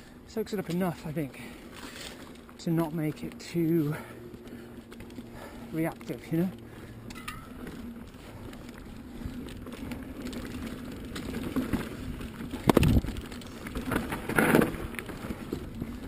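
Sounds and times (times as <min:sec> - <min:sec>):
bike tyre rumble: 0:00.0 - 0:16.0
bike frame rattle: 0:01.7 - 0:16.0.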